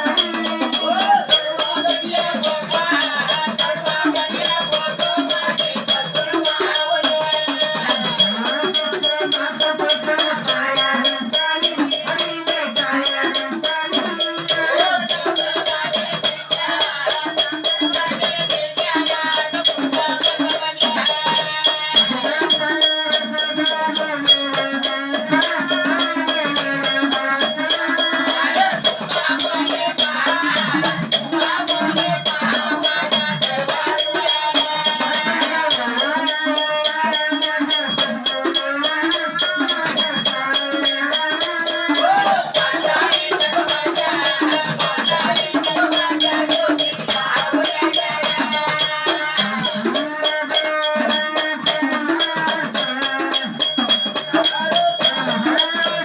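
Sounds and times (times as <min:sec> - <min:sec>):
fast rattling percussion: 0:00.0 - 0:56.0
person singing: 0:00.0 - 0:56.0.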